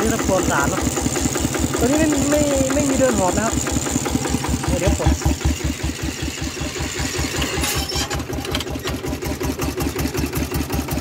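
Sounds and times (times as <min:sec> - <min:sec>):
diesel engine chugging: 0:00.0 - 0:11.0.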